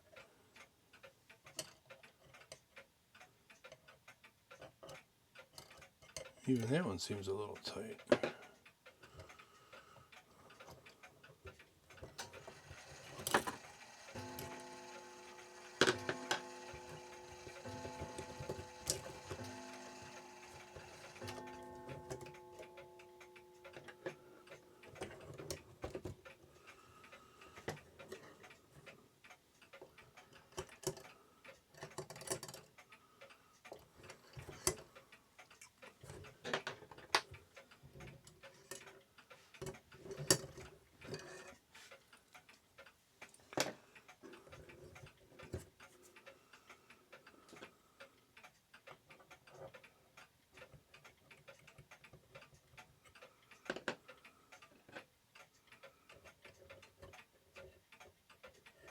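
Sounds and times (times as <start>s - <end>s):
metallic clicks of clock parts: 0.0s - 58.9s.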